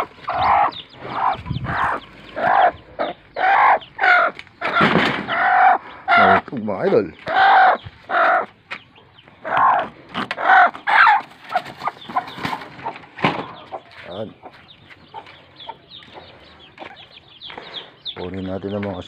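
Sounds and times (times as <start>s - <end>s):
chickens clucking: 0.0s - 19.0s
chicks peeping: 0.0s - 19.0s.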